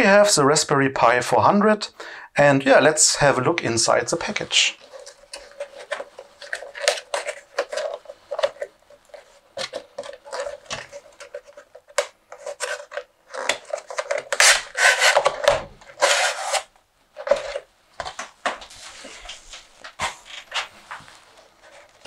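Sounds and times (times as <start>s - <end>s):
cardboard scraping and rustling: 4.3s - 22.0s.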